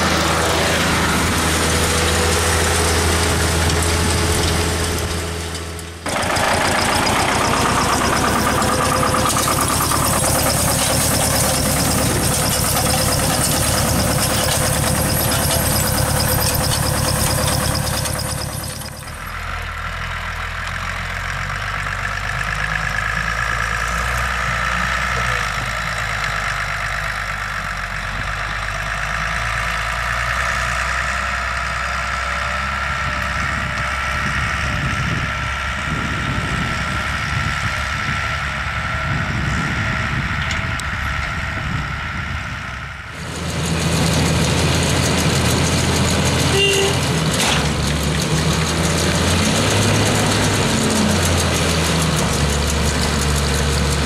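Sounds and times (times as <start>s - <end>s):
tractor diesel engines under load: 0.0s - 54.0s.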